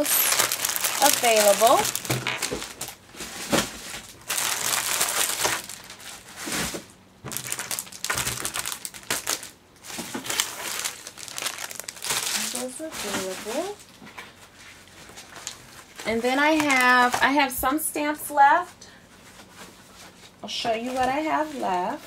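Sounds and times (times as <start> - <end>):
plastic bags crinkling: 0.0 - 17.6, 19.3 - 22.0.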